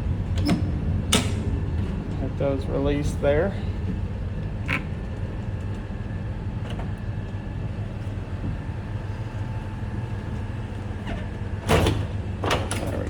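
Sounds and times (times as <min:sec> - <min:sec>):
diesel truck engine running: 0:00.0 - 0:12.4.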